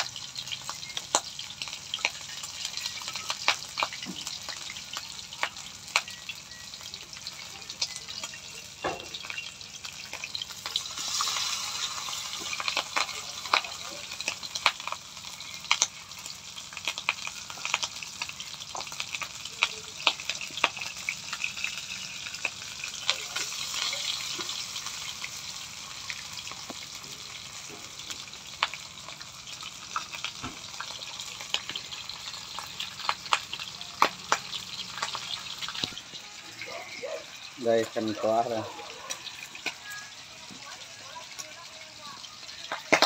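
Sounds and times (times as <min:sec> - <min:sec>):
deep-frying sizzle with pops: 0:00.0 - 0:43.0.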